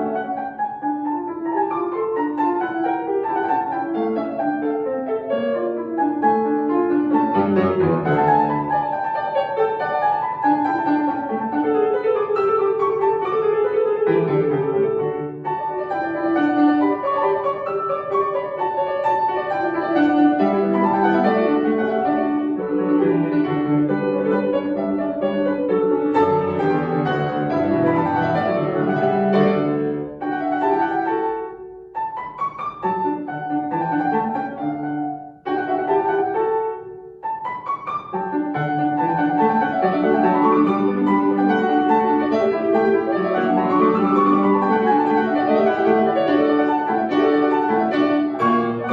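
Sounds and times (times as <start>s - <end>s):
solo acoustic piano piece: 0.0s - 48.9s.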